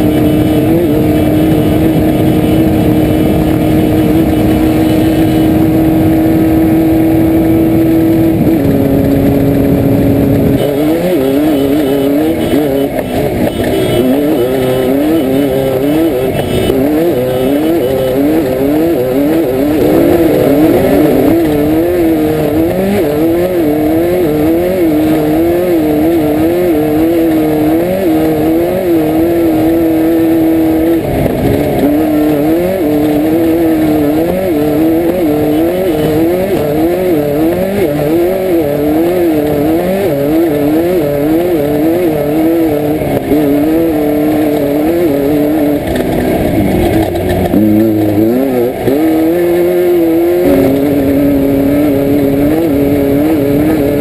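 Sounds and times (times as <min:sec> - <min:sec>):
racing car engine revving: 0:00.0 - 0:54.0.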